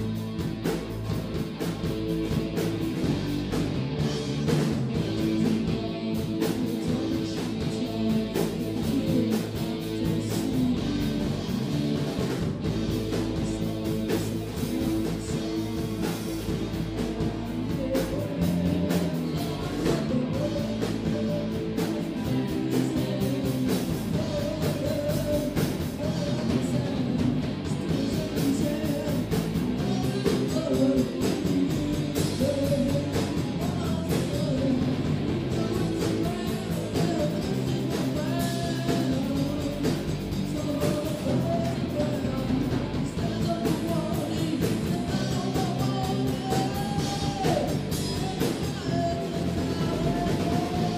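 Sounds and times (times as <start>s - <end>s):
bass guitar: 0.0s - 50.9s
drum kit beat: 0.0s - 50.9s
electric guitars: 0.0s - 50.9s
man singing: 4.4s - 50.9s.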